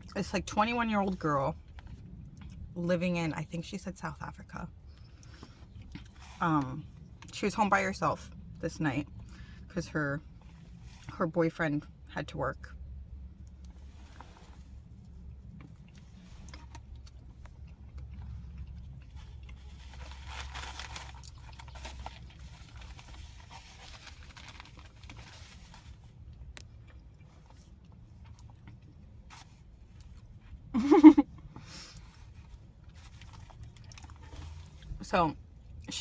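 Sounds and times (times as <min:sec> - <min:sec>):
soft chewing and crunching: 0:00.0 - 0:11.2, 0:11.8 - 0:36.0.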